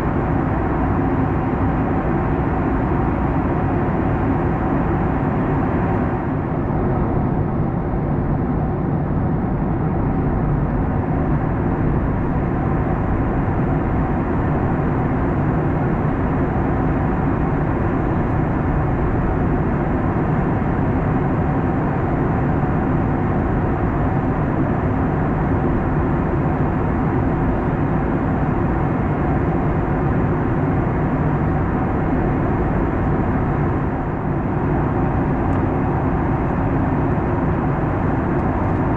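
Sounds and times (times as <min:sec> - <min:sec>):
airplane cabin noise: 0:00.0 - 0:38.9
jet engine noise: 0:00.0 - 0:38.9.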